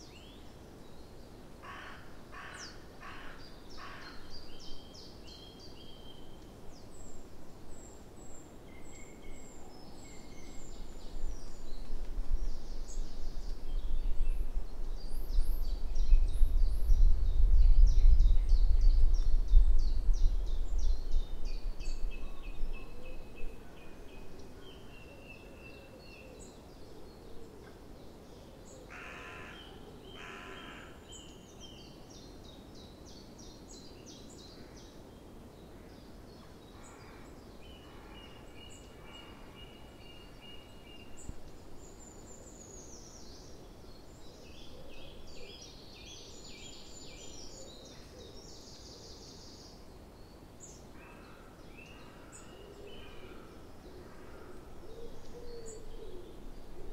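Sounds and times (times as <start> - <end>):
low background noise: 0.0 - 56.9
birds singing: 1.7 - 56.9.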